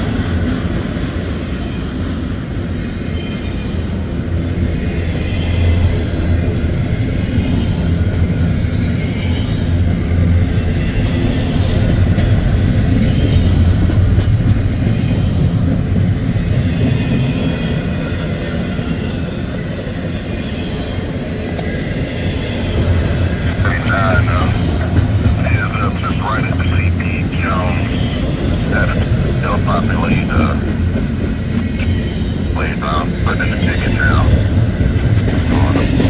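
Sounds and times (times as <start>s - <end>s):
freight train wheels rumbling on rails: 0.0s - 36.0s.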